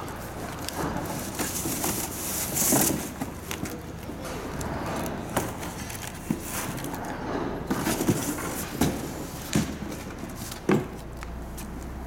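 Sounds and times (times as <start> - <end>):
cardboard scraping and rustling: 0.1 - 11.0.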